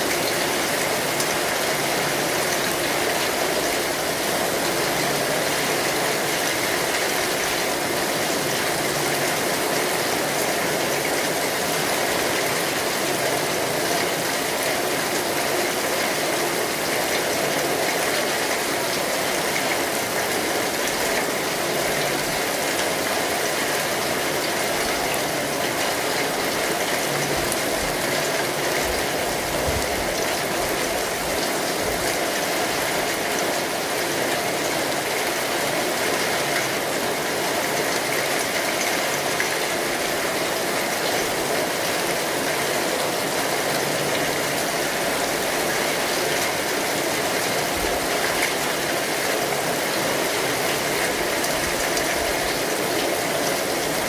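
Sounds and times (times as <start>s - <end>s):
rain drumming on an umbrella: 0.0s - 54.0s.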